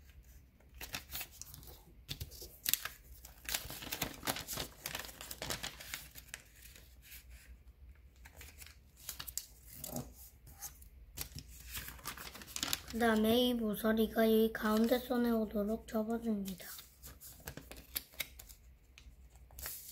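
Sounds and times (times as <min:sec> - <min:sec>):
paper being folded: 0:00.0 - 0:13.3, 0:16.4 - 0:19.9.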